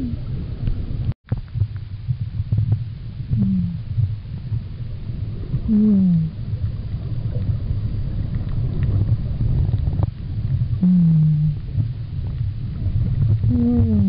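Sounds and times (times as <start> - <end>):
underwater rumbling churn: 0.0 - 14.0.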